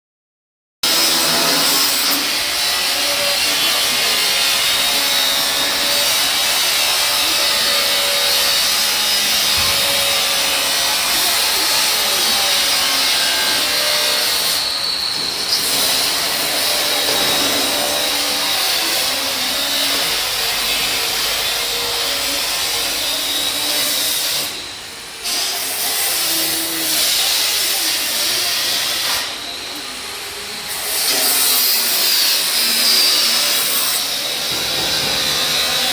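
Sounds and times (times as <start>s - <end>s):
welding arc crackling: 0.9s - 35.9s.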